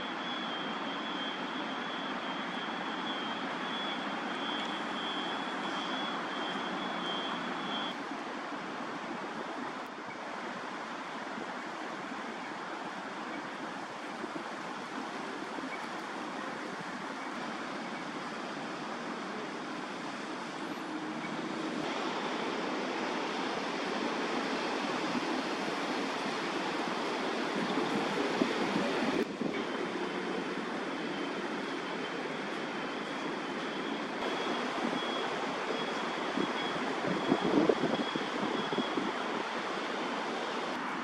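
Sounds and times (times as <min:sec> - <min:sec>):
distant road traffic: 0:00.0 - 0:41.0.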